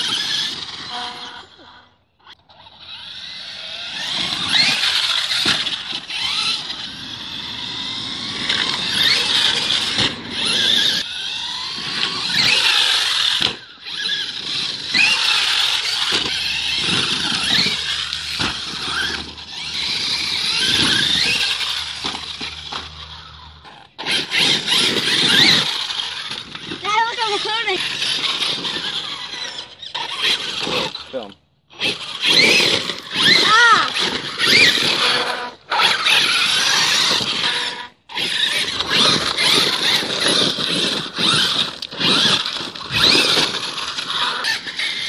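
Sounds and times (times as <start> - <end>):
rc truck motor whining: 0.0 - 45.0.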